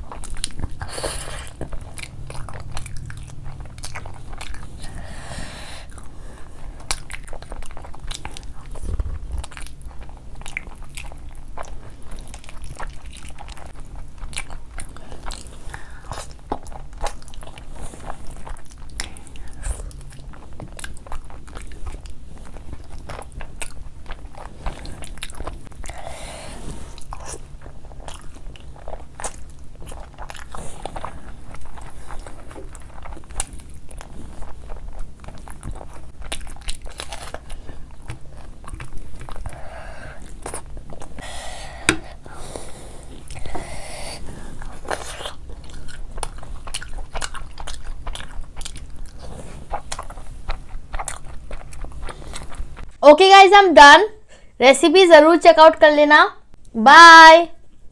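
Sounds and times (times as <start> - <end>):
wet chewing and smacking: 0.0 - 53.0.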